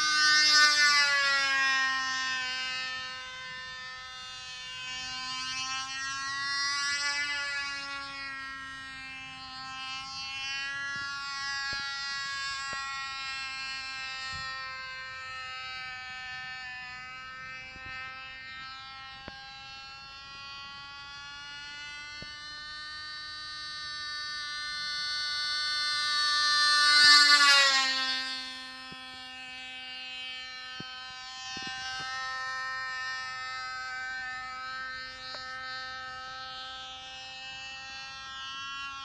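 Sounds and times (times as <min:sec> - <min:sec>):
model plane engine buzzing: 0:00.0 - 0:39.0.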